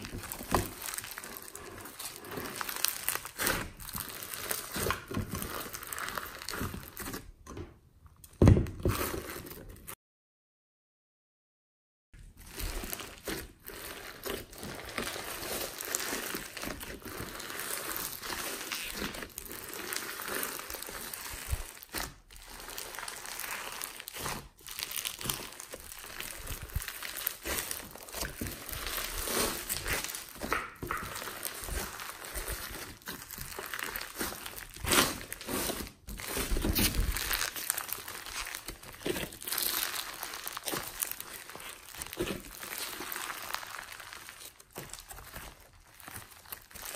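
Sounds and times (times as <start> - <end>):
foam beads crackling in slime: 0.0 - 7.0, 12.2 - 46.9.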